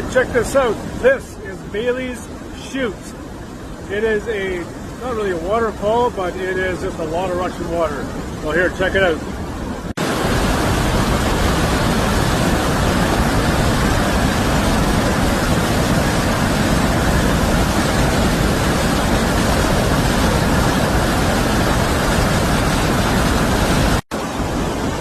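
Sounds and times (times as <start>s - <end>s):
whitewater rushing through chute: 0.0s - 25.0s.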